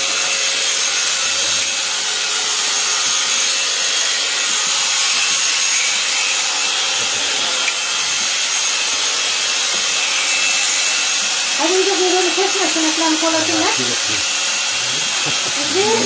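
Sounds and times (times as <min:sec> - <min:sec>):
electric clipper shearing fleece: 0:00.0 - 0:16.0.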